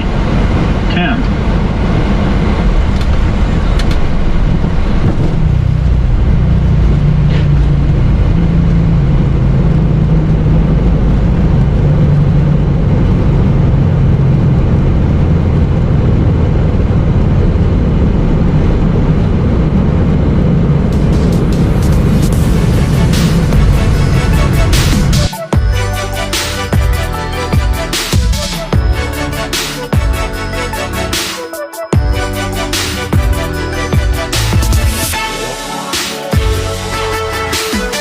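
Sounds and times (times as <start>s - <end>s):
vehicle running rumble: 0.0s - 38.0s.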